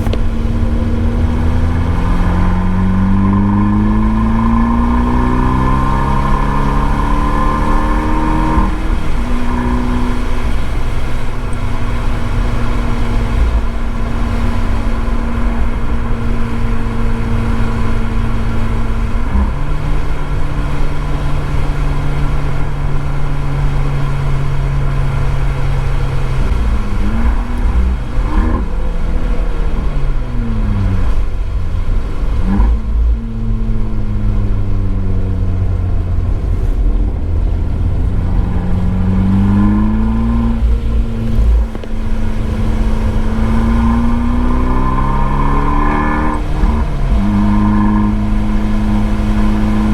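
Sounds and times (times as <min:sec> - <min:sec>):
car engine shifting gears: 0:00.0 - 0:49.9
road and spray noise: 0:00.0 - 0:49.9.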